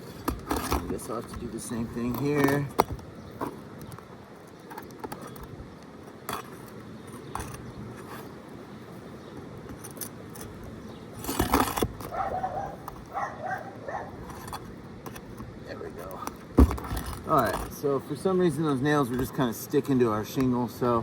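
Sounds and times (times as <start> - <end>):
rough grating: 0.0 - 3.8, 4.6 - 19.7
pry bar scraping: 0.0 - 19.6.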